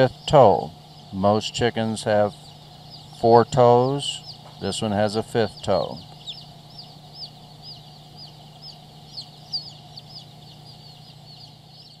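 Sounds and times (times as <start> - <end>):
chicks peeping: 0.0 - 12.0
low hum: 0.0 - 12.0.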